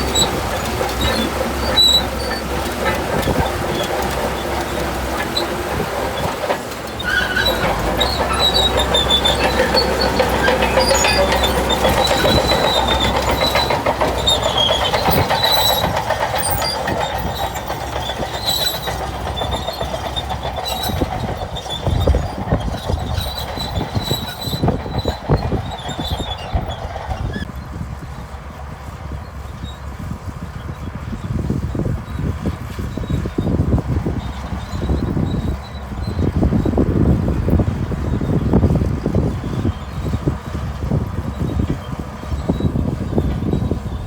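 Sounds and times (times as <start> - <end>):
diesel engine running: 0.0 - 44.0
steel tracks squealing and clanking: 0.0 - 44.0.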